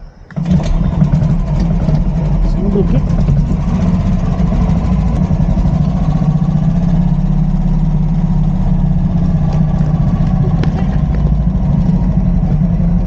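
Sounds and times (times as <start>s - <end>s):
motorcycle engine idling: 0.4s - 13.0s.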